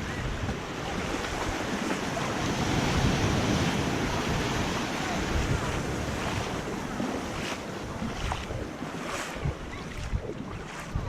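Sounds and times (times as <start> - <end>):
ocean surf breaking: 0.0 - 9.6
wind buffeting microphone: 0.0 - 11.0.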